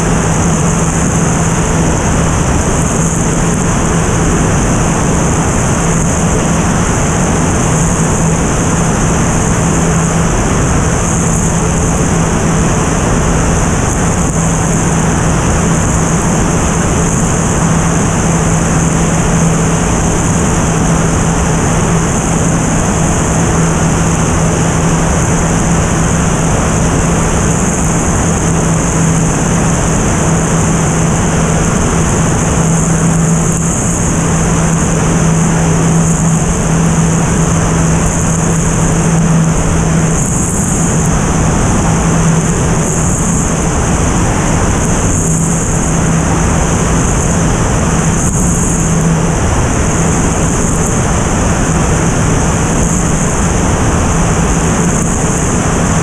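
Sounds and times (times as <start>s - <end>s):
propeller airplane engine drone: 0.0s - 56.0s
wind rushing over microphone: 0.0s - 56.0s.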